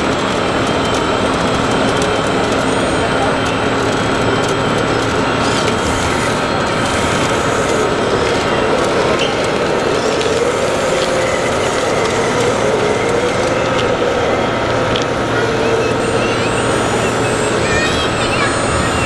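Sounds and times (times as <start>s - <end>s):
high whine: 0.0s - 19.0s.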